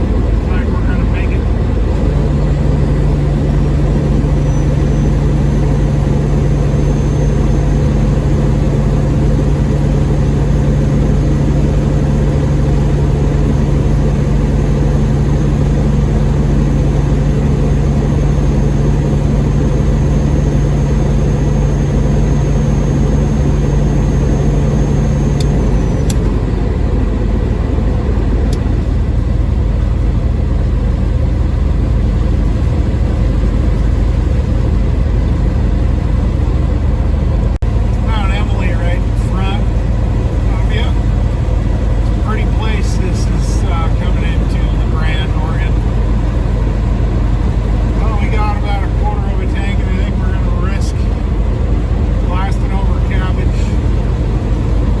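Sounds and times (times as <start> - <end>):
diesel engine droning: 0.0 - 55.0
faint high whine: 0.0 - 55.0
steady hum: 0.0 - 55.0.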